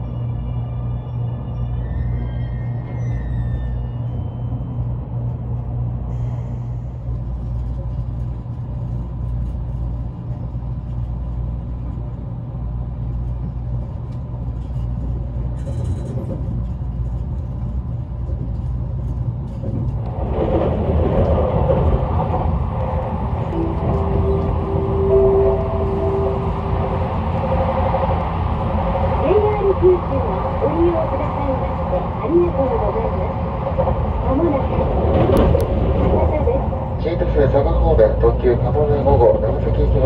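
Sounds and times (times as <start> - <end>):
electric train cabin rumble: 0.0 - 40.0.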